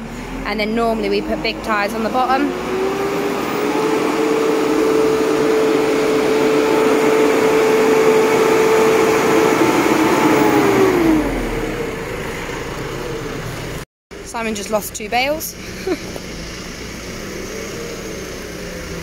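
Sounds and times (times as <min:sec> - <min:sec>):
tractor engine whining: 0:00.0 - 0:19.0.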